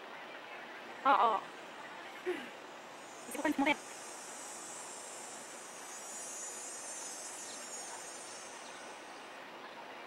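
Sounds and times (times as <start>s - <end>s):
insects trilling: 1.4s - 9.5s.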